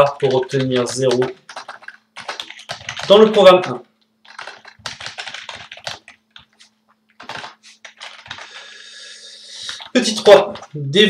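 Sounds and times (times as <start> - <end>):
keyboard typing: 0.0 - 8.8, 9.6 - 10.8.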